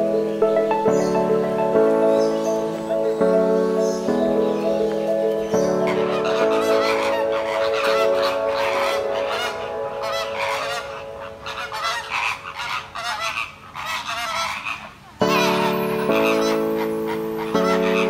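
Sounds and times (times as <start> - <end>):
background music: 0.0 - 12.8, 15.2 - 18.0
birds calling: 0.0 - 18.0.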